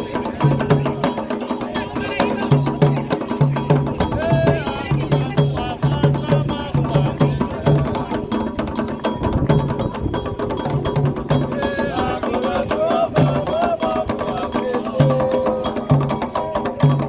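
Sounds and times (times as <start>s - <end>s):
person singing: 0.0s - 8.7s, 11.4s - 17.0s
hand drums playing fast rhythm: 0.0s - 17.0s.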